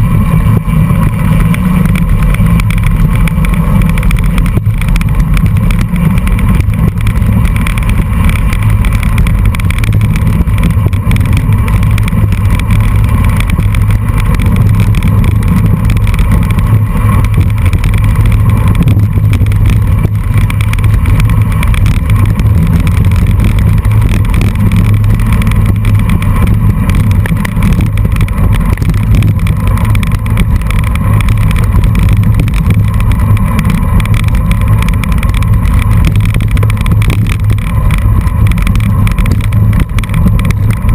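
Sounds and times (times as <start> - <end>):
gravel road vibration: 0.0 - 40.9
wind buffeting: 0.0 - 40.9.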